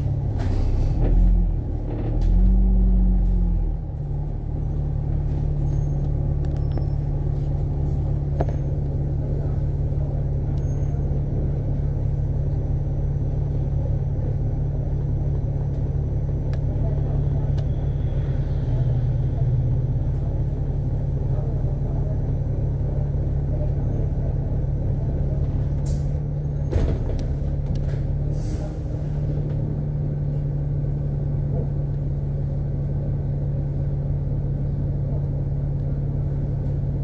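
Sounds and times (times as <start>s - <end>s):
bus engine hum: 0.0s - 37.0s.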